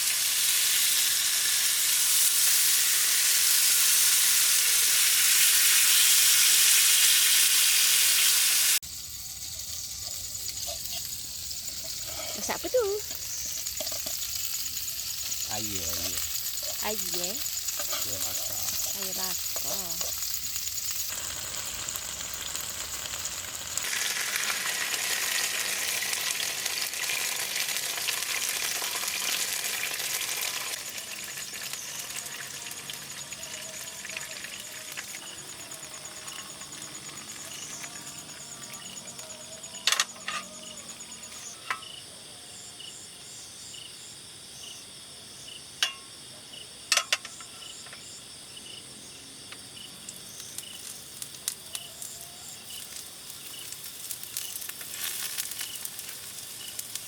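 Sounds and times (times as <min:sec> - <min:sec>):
pot of water sizzling: 0:00.0 - 0:42.0, 0:49.4 - 0:57.0
insect chirping: 0:00.0 - 0:57.0.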